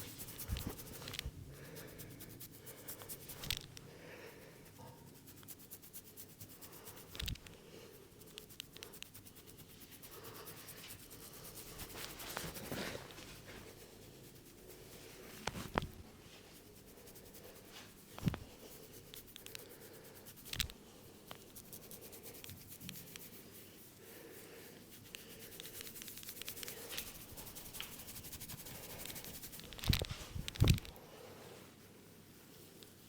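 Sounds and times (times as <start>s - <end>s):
hands scratching through hair: 0.0s - 31.0s.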